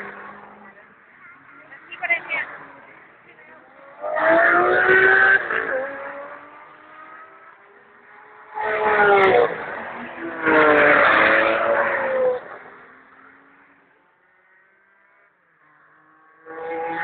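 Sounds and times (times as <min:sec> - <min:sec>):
sports car engine revving: 0:00.0 - 0:13.7.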